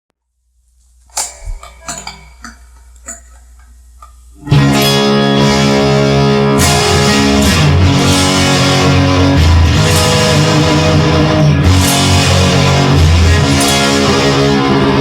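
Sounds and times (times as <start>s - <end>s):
plucked guitar notes: 1.1s - 14.5s
guitar sustained chords: 1.1s - 15.0s.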